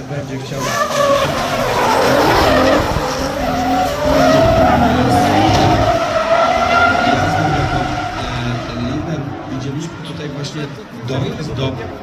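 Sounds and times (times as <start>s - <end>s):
car engine revving high: 0.0s - 12.0s
tyres skidding: 0.0s - 12.0s.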